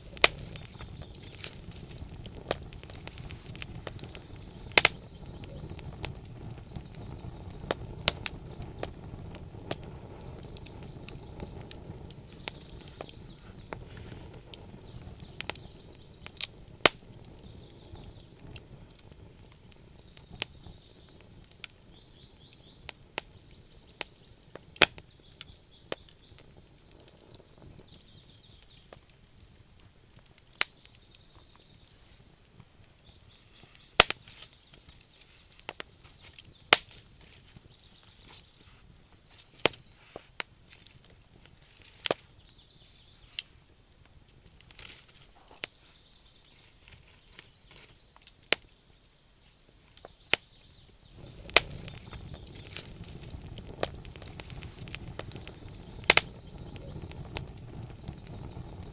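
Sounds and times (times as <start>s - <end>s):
low rumble of flame: 0.0s - 49.0s, 50.3s - 58.9s
wood fire crackling and popping: 0.0s - 58.9s.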